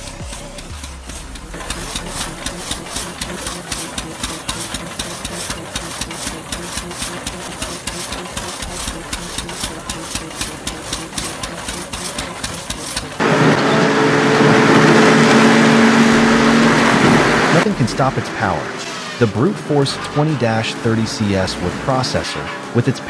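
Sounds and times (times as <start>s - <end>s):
engine running with rapid pulse: 0.0s - 23.0s.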